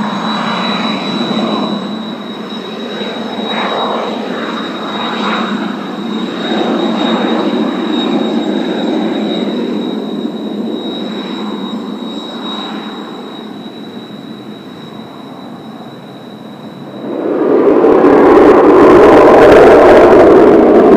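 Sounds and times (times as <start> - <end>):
jet engines running: 0.0 - 20.9.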